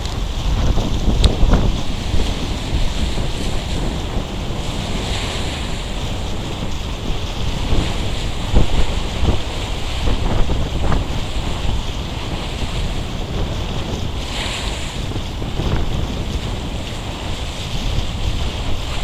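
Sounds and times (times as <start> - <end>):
sea water rushing past boat: 0.0 - 19.0
wind buffeting microphone: 0.0 - 19.0.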